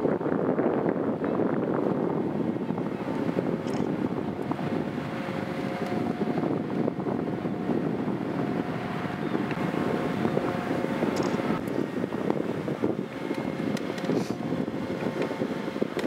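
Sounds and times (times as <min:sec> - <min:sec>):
low engine drone: 0:00.0 - 0:16.0
wind buffeting microphone: 0:00.0 - 0:16.0
faint hum tones: 0:01.1 - 0:16.0.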